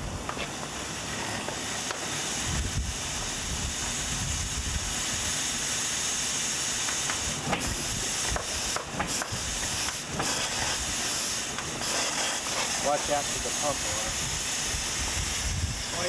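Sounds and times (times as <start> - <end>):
steam hissing from boiler: 0.0 - 16.0.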